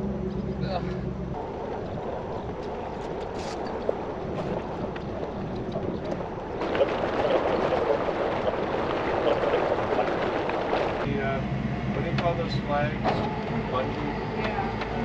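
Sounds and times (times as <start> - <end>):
boat engine: 0.0 - 15.0
water noise: 0.0 - 15.0.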